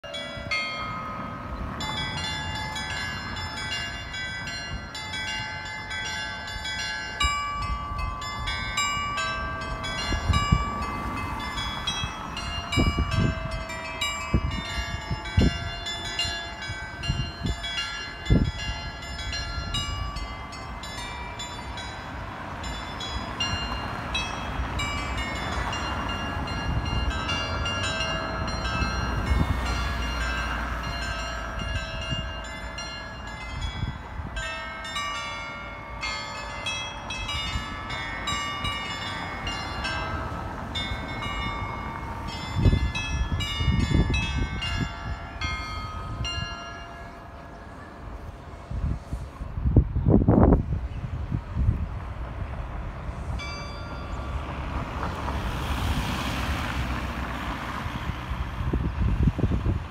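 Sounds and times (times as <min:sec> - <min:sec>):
carillon bells playing a tune: 0:00.0 - 0:48.8, 0:53.3 - 0:54.8.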